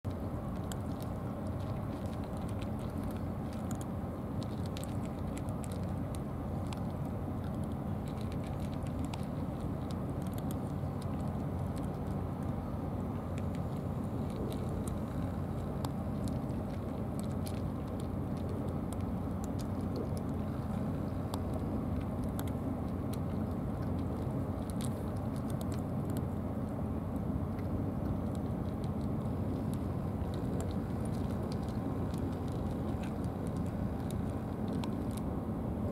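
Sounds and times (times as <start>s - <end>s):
low outdoor rumble: 0.0s - 35.9s
cats eating from plastic trays: 0.1s - 26.7s, 27.4s - 35.3s.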